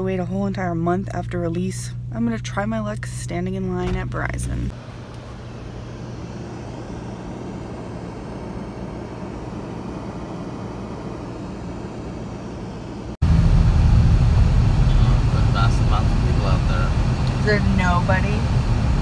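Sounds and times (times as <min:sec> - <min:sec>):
car climate fan blowing: 0:00.0 - 0:19.0
deep rumble: 0:00.0 - 0:19.0.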